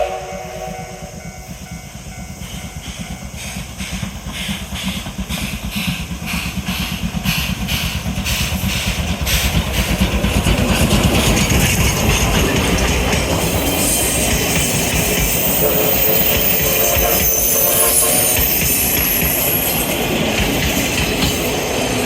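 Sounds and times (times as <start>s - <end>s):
steam locomotive exhaust chuffs: 0.0s - 22.0s.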